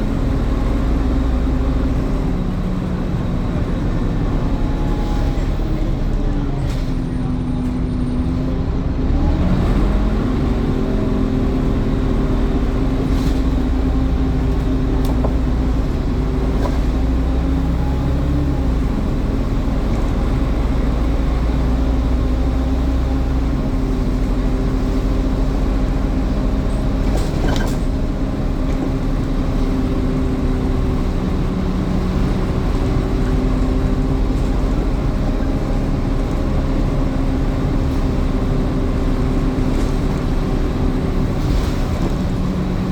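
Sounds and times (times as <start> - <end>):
bus engine running: 0.0 - 42.9.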